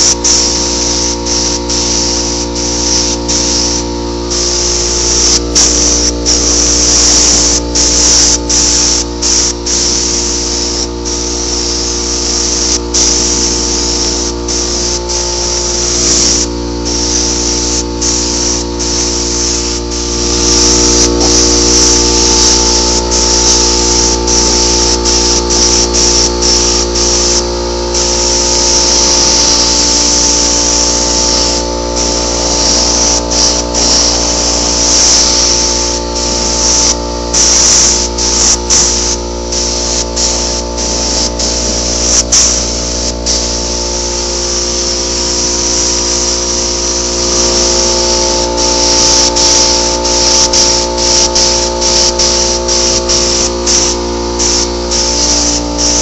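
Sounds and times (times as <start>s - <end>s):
paint spray gun hissing: 0.0s - 56.0s
steady multi-tone hum: 0.0s - 56.0s.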